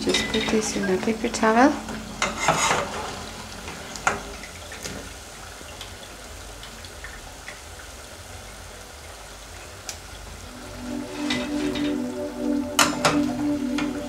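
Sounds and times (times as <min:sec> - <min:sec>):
oil sizzling with small pops: 0:00.0 - 0:12.0.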